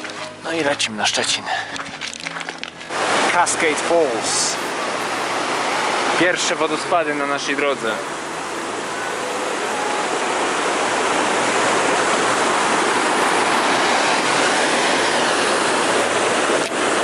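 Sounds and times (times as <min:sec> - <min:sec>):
water rushing over boulders: 0:00.0 - 0:17.0.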